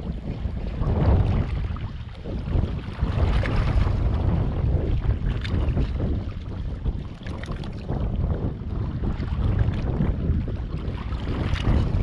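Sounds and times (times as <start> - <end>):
water slapping against hull: 0.0 - 12.0
wind rumbling on microphone: 0.0 - 12.0.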